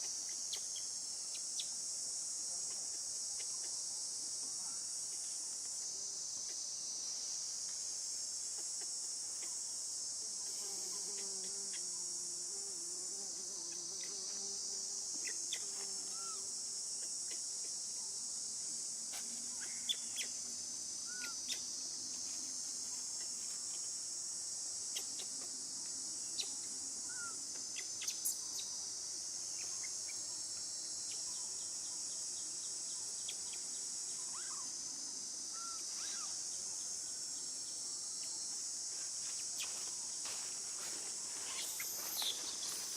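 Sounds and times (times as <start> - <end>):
insects buzzing: 0.0 - 42.9.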